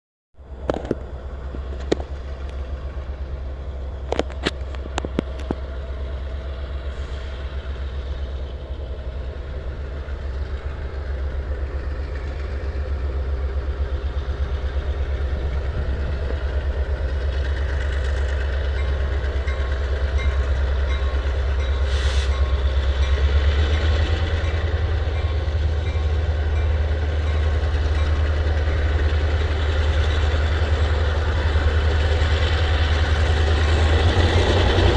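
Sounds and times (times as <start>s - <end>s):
diesel locomotive rumble: 0.4s - 34.9s.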